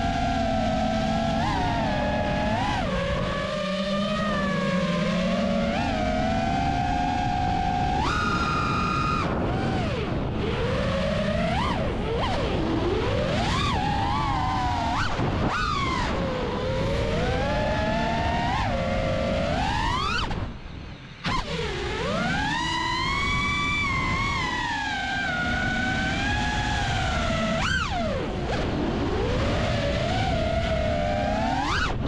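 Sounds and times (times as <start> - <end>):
quadcopter motors whining: 0.0 - 20.6, 21.2 - 32.0
wind and prop-wash rush: 0.0 - 32.0.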